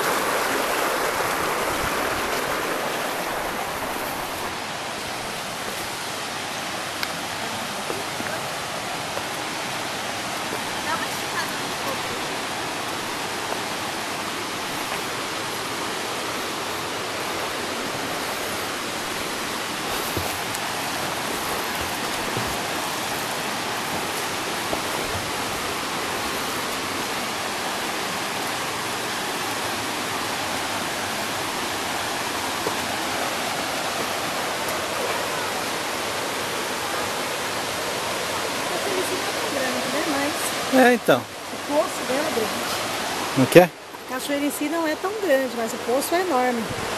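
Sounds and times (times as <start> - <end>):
waterfall rushing into pool: 0.0 - 46.9.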